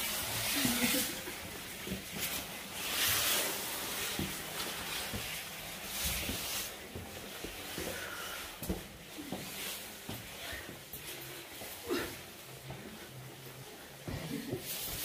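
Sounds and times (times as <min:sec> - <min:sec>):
rustling and scuffing: 0:00.4 - 0:15.0.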